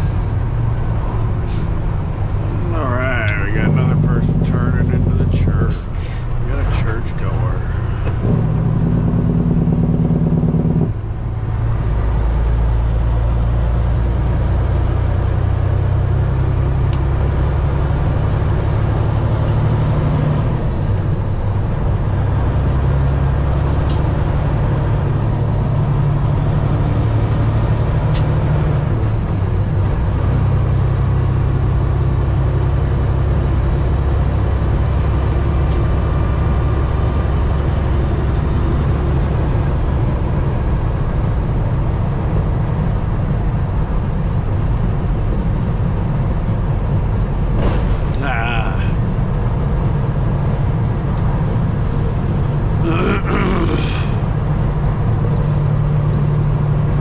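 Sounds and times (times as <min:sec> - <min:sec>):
truck engine heard from cab: 0:00.0 - 0:57.0.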